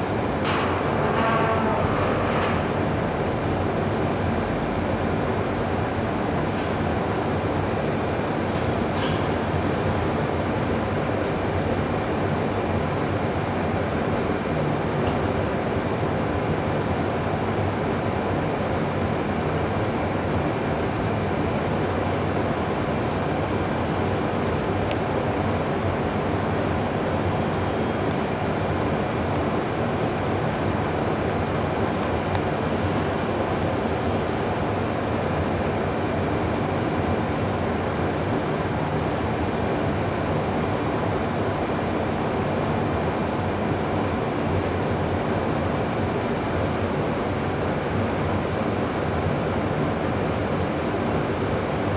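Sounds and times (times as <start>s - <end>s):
train ventilation rushing hum: 0.0s - 51.9s.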